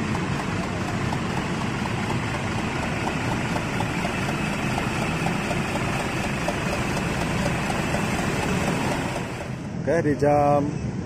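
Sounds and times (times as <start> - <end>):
diesel engine idling: 0.0 - 10.3.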